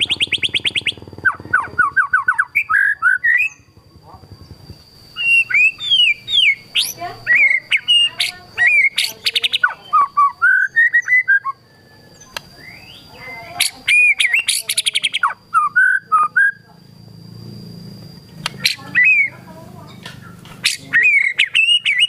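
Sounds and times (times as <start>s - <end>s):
songbird whistling and trilling: 0.0s - 3.7s, 5.1s - 16.6s, 18.5s - 19.5s, 20.1s - 22.0s.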